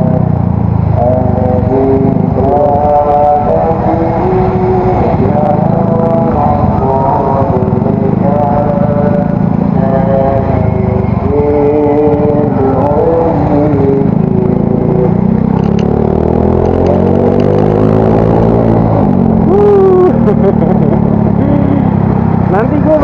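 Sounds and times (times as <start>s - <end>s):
scooter engine accelerating: 0.0s - 23.0s.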